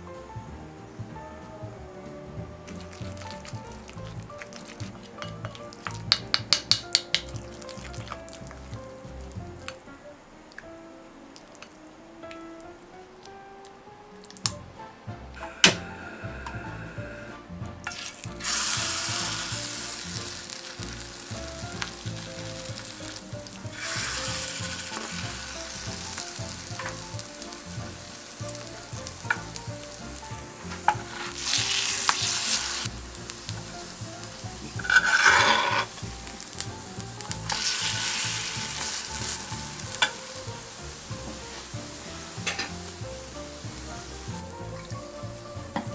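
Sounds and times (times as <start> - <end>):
food frying in oil: 2.6 - 9.9, 15.4 - 45.9.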